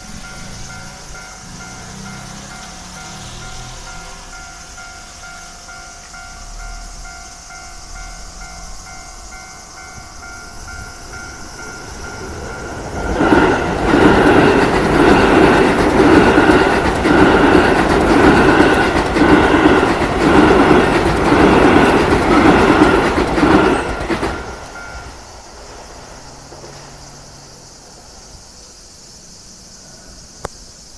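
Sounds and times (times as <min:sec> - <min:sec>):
level-crossing warning bell: 0:00.0 - 0:25.5
train wheels clattering: 0:00.0 - 0:27.4.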